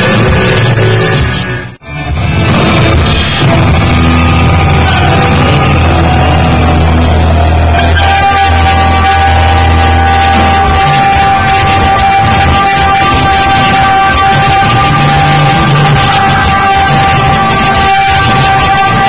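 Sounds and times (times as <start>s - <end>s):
bass guitar: 0.0s - 19.0s
electric guitar: 0.0s - 19.0s
live rock band playing: 0.0s - 19.0s.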